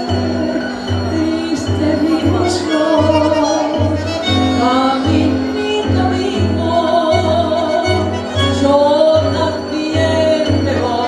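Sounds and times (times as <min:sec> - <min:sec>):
bandoneon: 0:00.0 - 0:11.0
double bass notes: 0:00.0 - 0:11.0
piano: 0:00.0 - 0:11.0
violin: 0:00.0 - 0:11.0
woman singing: 0:00.0 - 0:11.0.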